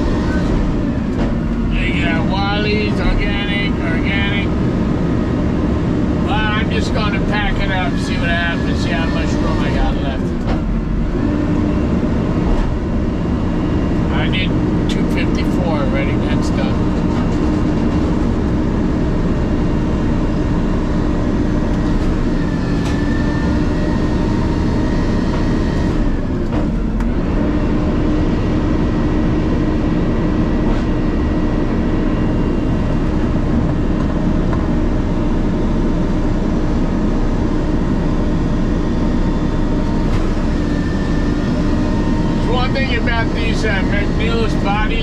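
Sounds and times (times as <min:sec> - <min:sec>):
garbage truck hydraulic packer droning: 0:00.0 - 0:03.8, 0:04.6 - 0:45.0.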